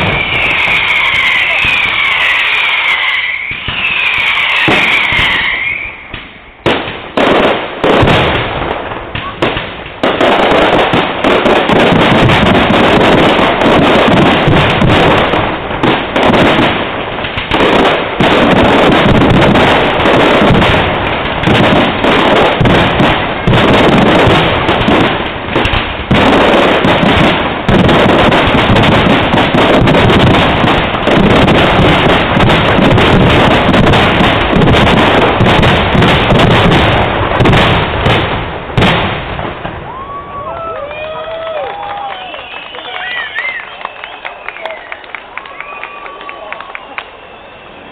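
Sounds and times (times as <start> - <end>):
fireworks bursting and crackling: 0.0 - 47.9.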